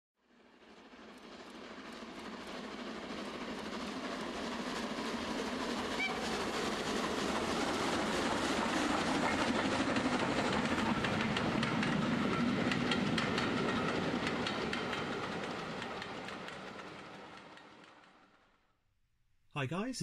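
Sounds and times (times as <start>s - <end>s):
train wheels clacking over rail joints: 1.2s - 18.4s.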